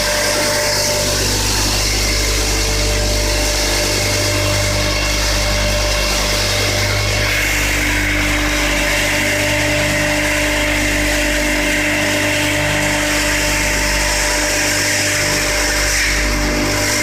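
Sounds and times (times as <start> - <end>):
machine high whine: 0.0 - 17.0
sawdust machine droning: 0.0 - 17.0.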